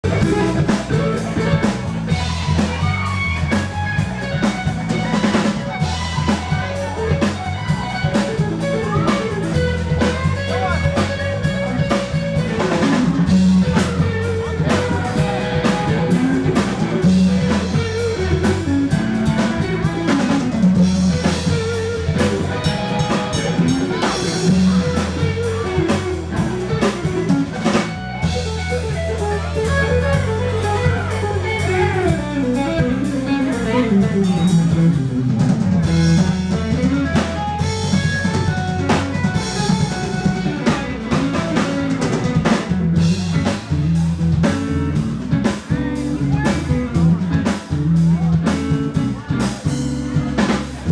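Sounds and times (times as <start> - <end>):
live rock band playing: 0.0 - 50.9.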